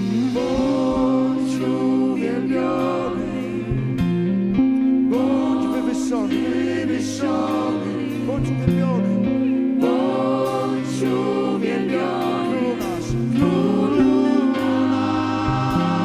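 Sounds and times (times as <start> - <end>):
several voices singing: 0.0 - 16.0
sustained low bass notes: 0.0 - 16.0
worship band playing: 0.0 - 16.0.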